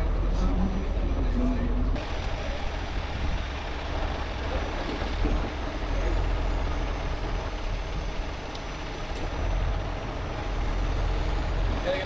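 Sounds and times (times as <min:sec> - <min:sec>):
diesel engine rumbling: 0:00.0 - 0:12.0
outdoor noise: 0:00.0 - 0:12.0.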